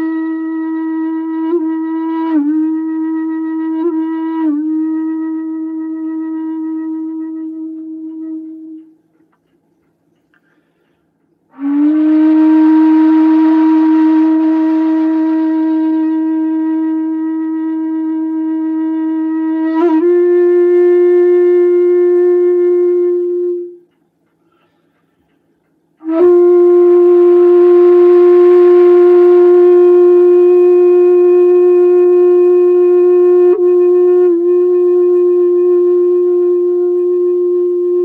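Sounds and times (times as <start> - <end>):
bamboo flute long low notes: 0.0 - 9.2, 11.5 - 24.7, 26.0 - 38.0.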